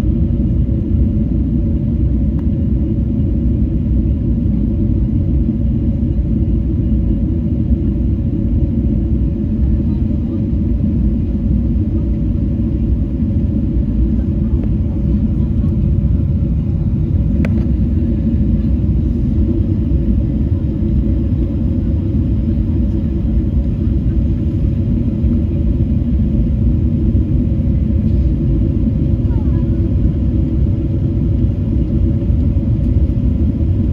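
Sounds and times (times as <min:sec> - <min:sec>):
aircraft cabin engine rumble: 0:00.0 - 0:33.9
steady hum: 0:00.0 - 0:33.9.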